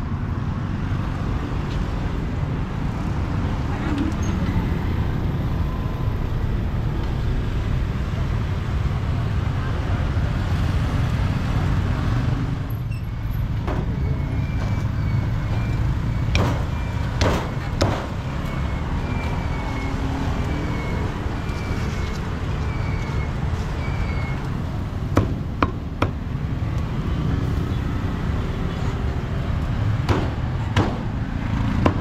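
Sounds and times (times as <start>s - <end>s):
low rumble of street traffic: 0.0s - 32.0s.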